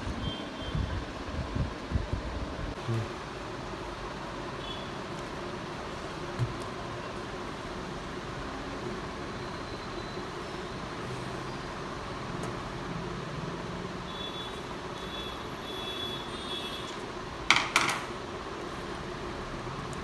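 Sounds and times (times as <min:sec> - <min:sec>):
background hum and hiss: 0:00.0 - 0:20.0.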